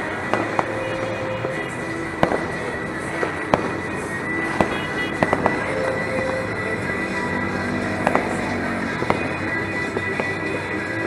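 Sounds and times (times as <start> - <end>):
fireworks cracking: 0.0 - 11.0
steady noisy background: 0.0 - 11.0.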